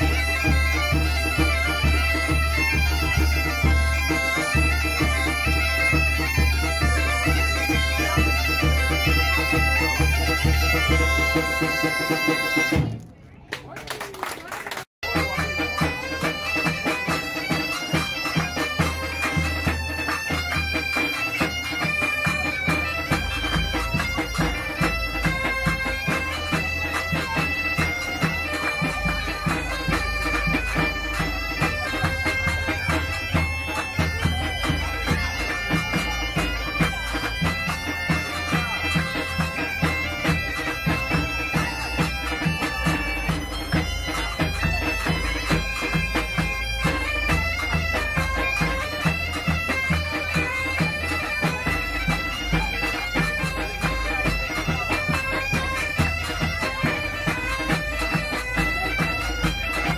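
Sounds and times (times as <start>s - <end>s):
bagpipe music with drones: 0.0s - 12.9s, 15.0s - 59.9s.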